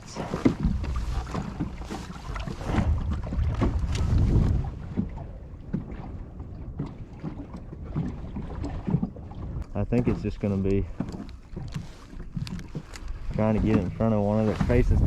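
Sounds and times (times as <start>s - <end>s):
wind noise: 0.0s - 10.5s, 11.6s - 15.0s
boat rumble: 0.0s - 15.0s.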